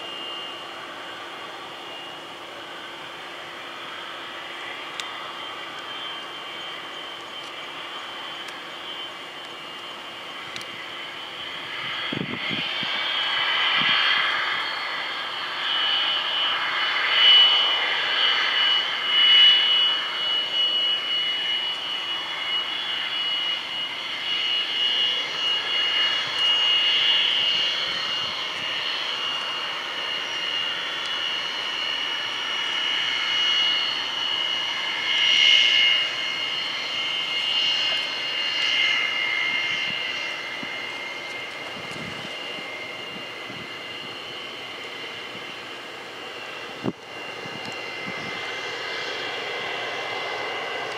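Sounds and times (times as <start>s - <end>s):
jet engine high-pitched whine: 0.0s - 50.9s.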